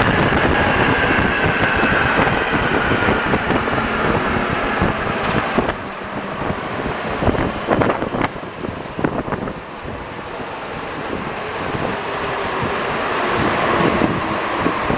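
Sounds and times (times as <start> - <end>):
metro train running with whine: 0.0 - 14.9
train clunks: 0.0 - 14.9.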